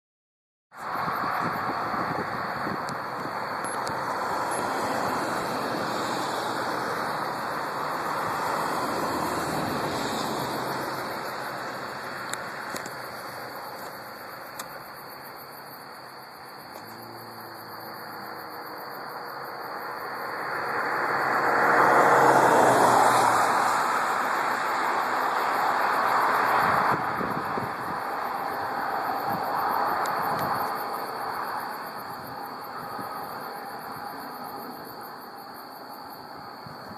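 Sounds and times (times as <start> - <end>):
vehicles passing: 0.8 - 36.9.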